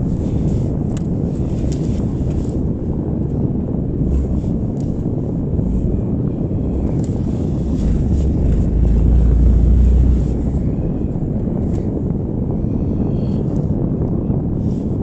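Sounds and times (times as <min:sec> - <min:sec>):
car exhaust rough rumble: 0:00.0 - 0:15.0.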